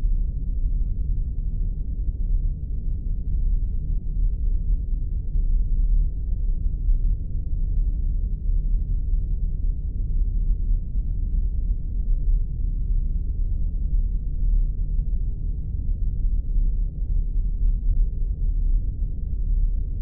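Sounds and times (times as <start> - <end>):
deep spaceship engine drone: 0.0 - 20.0.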